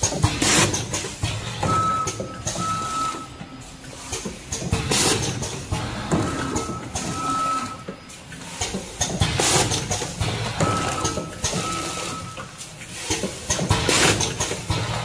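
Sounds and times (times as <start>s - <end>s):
packing machine clattering: 0.0s - 3.0s, 3.6s - 15.0s.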